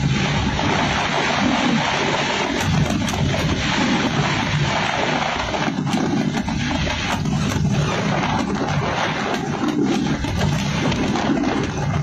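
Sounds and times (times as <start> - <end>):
fireworks bursting: 0.0 - 12.0
sharp firework cracks: 0.0 - 12.0.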